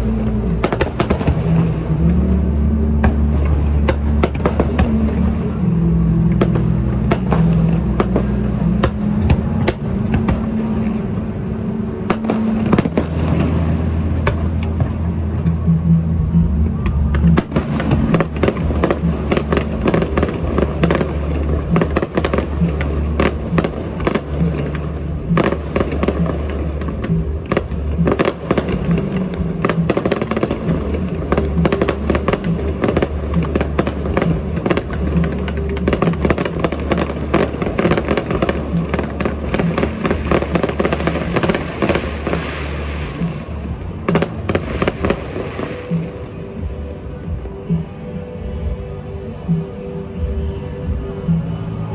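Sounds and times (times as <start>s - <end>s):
fireworks bangs and crackles: 0.0s - 48.8s
music with steady bass: 0.0s - 51.9s.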